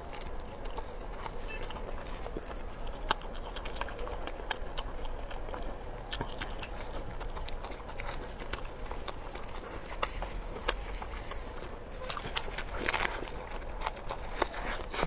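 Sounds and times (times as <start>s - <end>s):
person chewing wet food: 0.0s - 15.0s.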